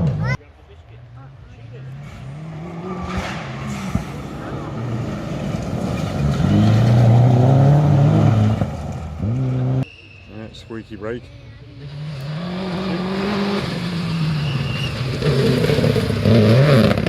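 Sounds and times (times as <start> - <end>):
rally car engine approaching: 0.0 - 9.8, 11.2 - 17.0.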